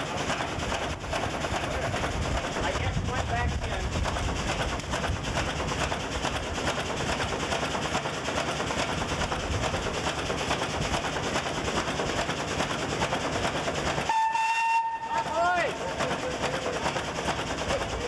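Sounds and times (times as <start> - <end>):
steam pump chuffing and clatter: 0.0 - 18.0.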